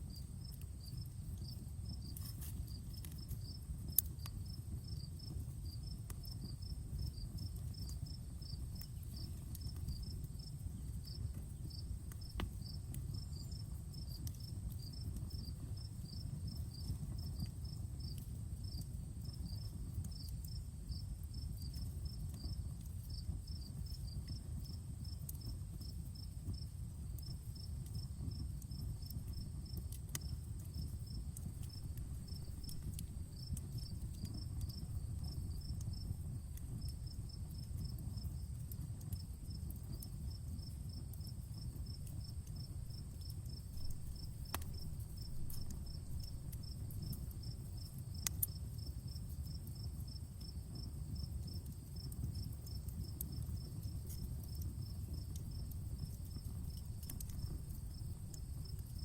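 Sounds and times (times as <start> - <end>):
campfire crackling: 0.0 - 59.0
crickets chirping: 0.0 - 59.0
fire popping: 0.0 - 59.0.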